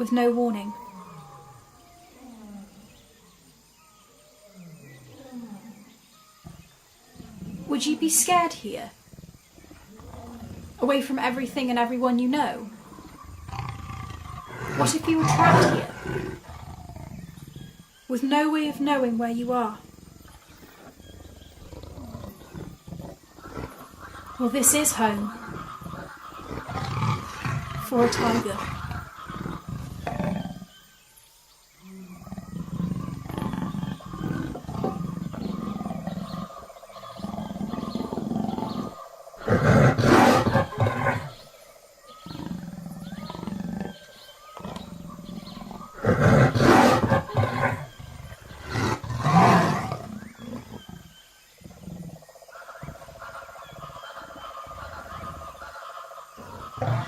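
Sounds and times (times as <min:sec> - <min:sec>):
tiger growling: 0:00.0 - 0:57.0
tiger roaring: 0:06.5 - 0:11.4, 0:12.7 - 0:18.0, 0:19.5 - 0:31.0, 0:31.8 - 0:57.0.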